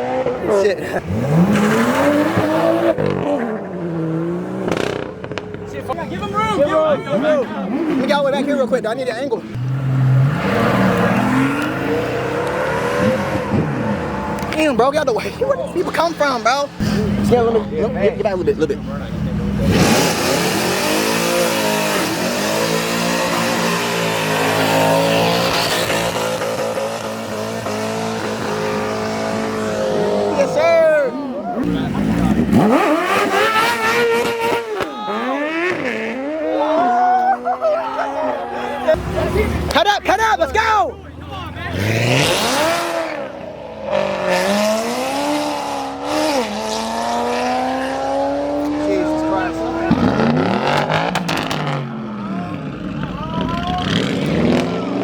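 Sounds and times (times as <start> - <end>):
car engine revving: 0.0 - 37.5, 38.1 - 55.0.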